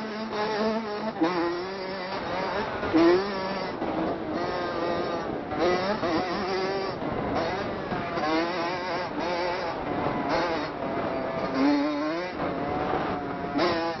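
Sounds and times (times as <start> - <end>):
dirt bike engine: 0.0 - 14.0.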